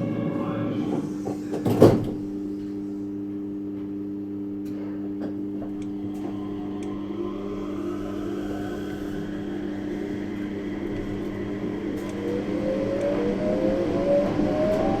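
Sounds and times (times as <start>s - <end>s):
rising train whine: 0.0s - 3.8s, 4.7s - 15.0s
train electrical hum: 0.0s - 15.0s.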